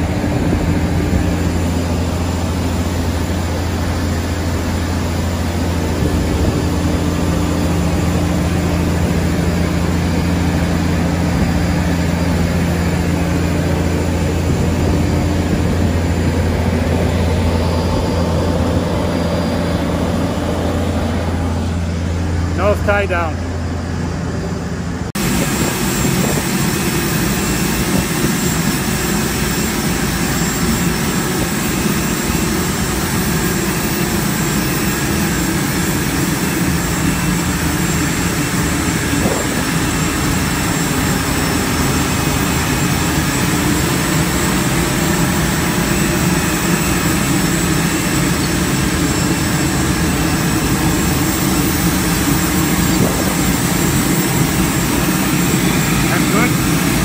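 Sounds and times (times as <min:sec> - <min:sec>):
aircraft turbine engine: 0:00.0 - 0:57.0.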